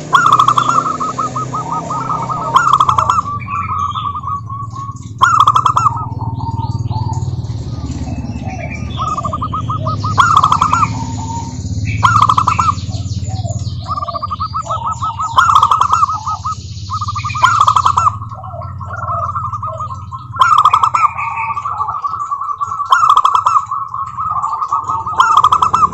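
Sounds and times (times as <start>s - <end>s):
doves trilled cooing: 0.0s - 25.9s
higher chirping: 0.0s - 25.9s.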